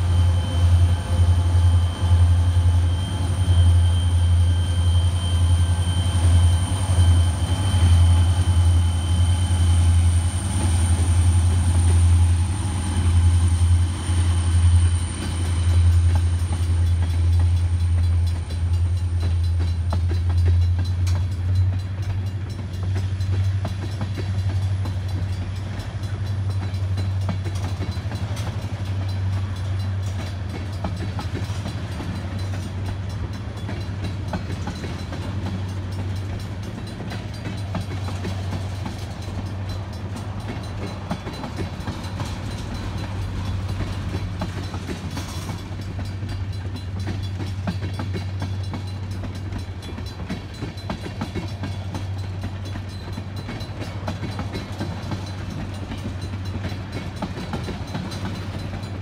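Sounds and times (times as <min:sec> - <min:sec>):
freight train rumbling: 0:00.0 - 0:59.0
rail cars clicking over joints: 0:00.0 - 0:59.0.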